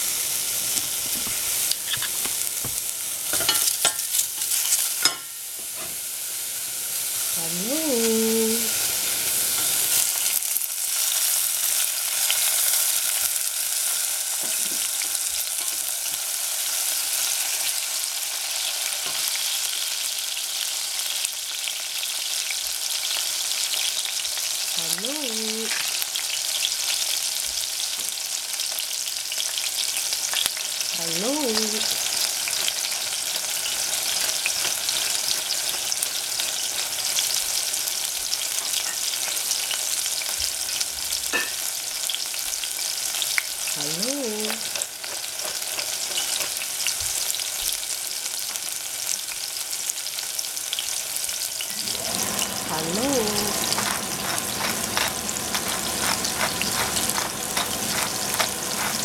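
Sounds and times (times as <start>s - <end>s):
onion sizzling in hot oil: 0.0s - 59.0s.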